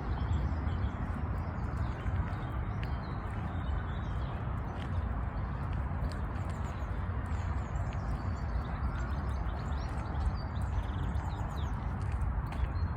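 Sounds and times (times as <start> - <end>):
wind rumble on microphone: 0.0 - 12.9.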